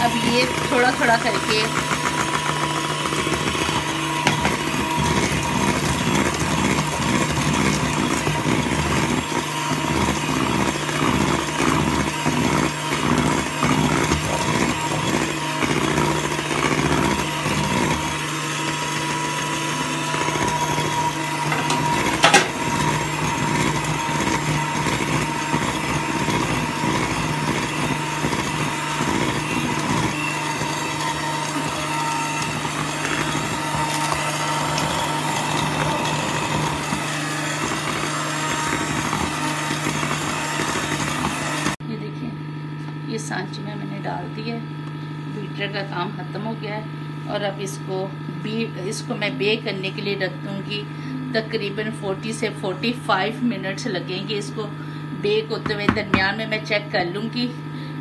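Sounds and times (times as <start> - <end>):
electric hand mixer running: 0.0 - 58.0.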